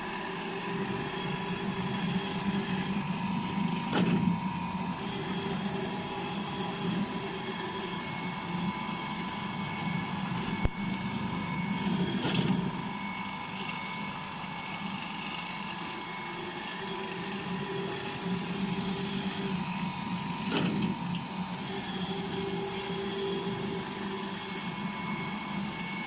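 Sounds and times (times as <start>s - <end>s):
machine motor hum: 0.0s - 26.0s.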